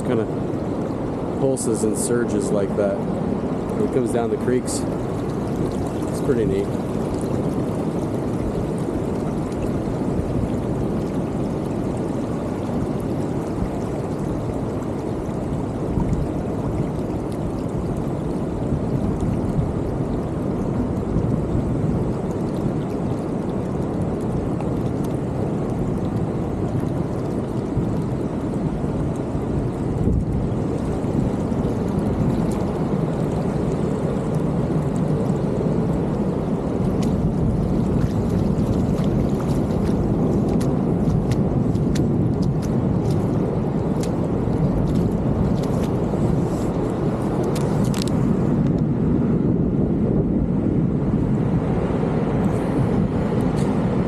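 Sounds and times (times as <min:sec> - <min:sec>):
water rushing over sand: 0:00.0 - 0:54.0.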